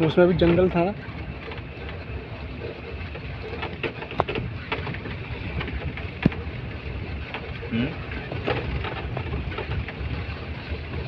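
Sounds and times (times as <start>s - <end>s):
knocks and rattles over bumps: 0.0s - 11.0s
tyre and road noise: 0.0s - 11.0s
vehicle engine running: 0.0s - 11.0s.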